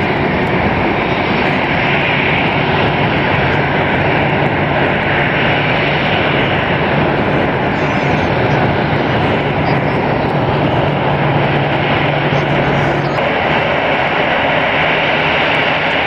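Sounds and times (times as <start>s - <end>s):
jet engine rush with low hum: 0.0s - 16.0s.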